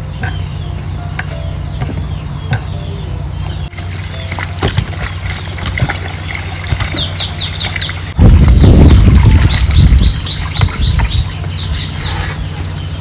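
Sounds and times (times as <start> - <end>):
bird chirping: 0.0 - 13.0
loud rough low rumble: 0.0 - 13.0
steady low hum: 0.0 - 13.0.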